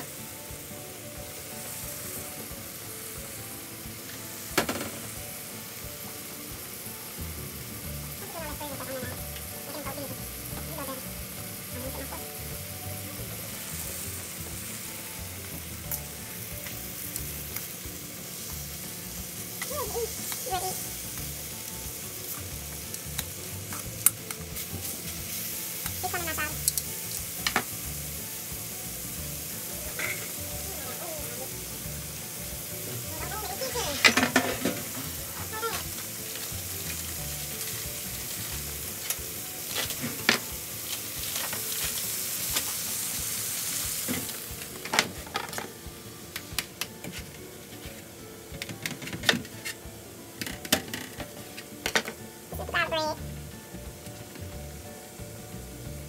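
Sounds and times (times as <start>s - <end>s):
utensil scraping and knocking wok: 0.0s - 52.3s
chicken sizzling in oil: 0.0s - 56.0s.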